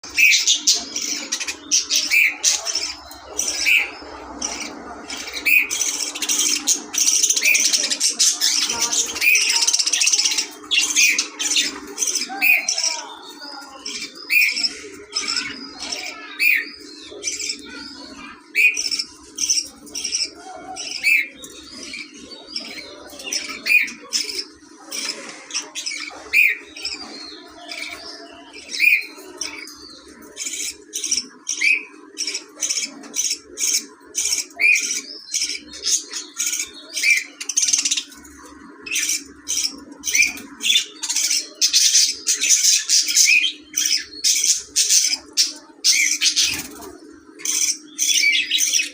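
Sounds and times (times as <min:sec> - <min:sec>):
budgerigars chirping and squawking: 0:00.0 - 0:48.9.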